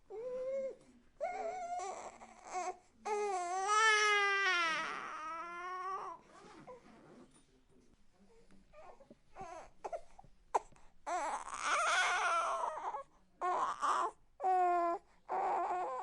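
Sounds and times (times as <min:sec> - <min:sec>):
baby crying: 0:00.1 - 0:06.2, 0:08.8 - 0:16.0.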